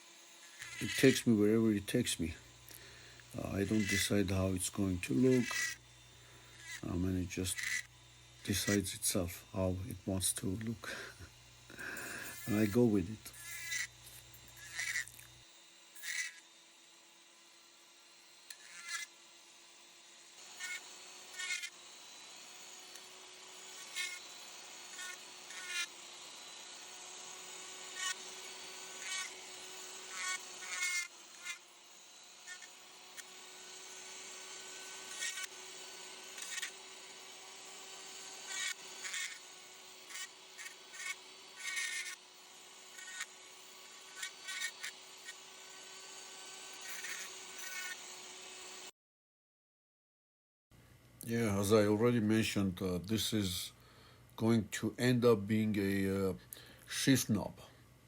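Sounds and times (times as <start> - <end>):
rotary tool grinding wood: 0.0 - 48.9.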